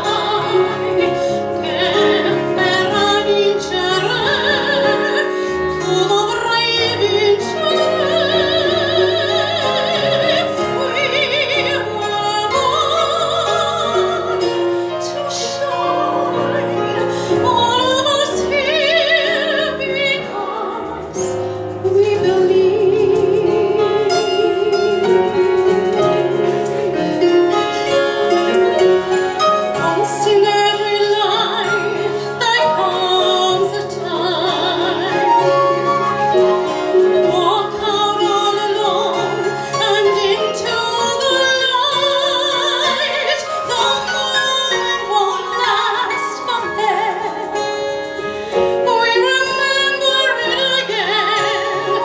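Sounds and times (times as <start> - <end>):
woman singing operatically: 0.0 - 25.0, 29.7 - 35.6, 37.1 - 47.5, 48.8 - 52.0
live instrumental accompaniment: 0.0 - 52.0.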